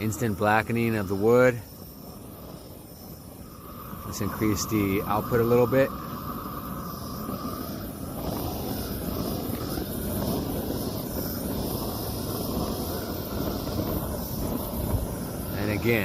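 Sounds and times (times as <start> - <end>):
torch flame rushing: 0.0 - 16.0.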